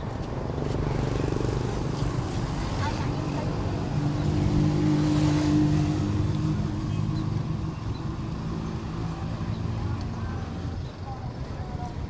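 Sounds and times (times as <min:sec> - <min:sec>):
street noise: 0:00.0 - 0:12.0
vehicle engine humming: 0:00.0 - 0:12.0.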